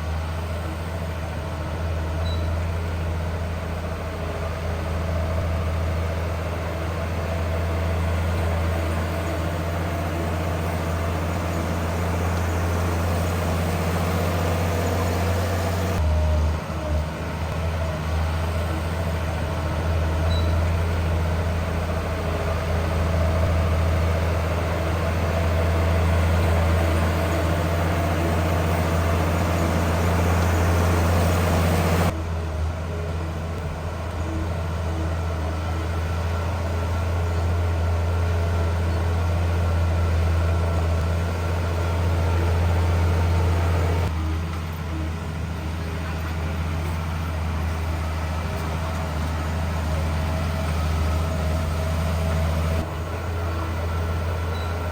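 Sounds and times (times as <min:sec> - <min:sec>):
heavy diesel engines humming: 0:00.0 - 0:54.9.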